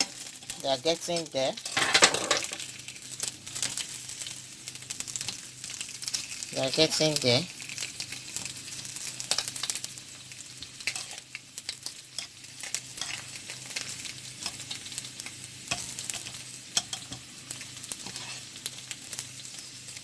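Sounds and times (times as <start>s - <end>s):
chicken skin sizzling and popping: 0.0s - 20.0s.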